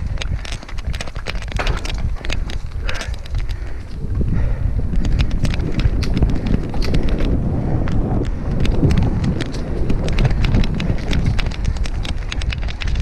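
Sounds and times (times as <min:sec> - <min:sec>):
bike clicks and rattles: 0:00.0 - 0:13.0
wind and tyre rumble: 0:00.0 - 0:13.0.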